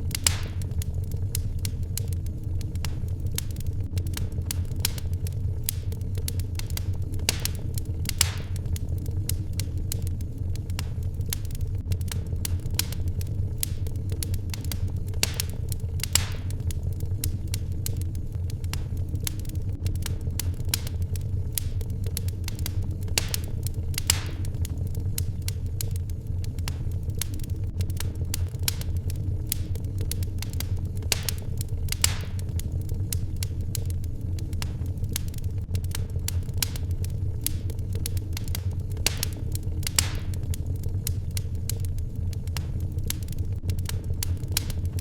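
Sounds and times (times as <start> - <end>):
low rumble: 0.0 - 45.0
wood fire crackling: 0.0 - 45.0.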